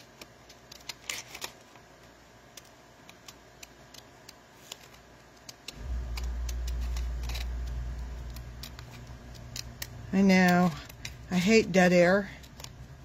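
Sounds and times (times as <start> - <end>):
steady low hum: 2.0 - 13.0.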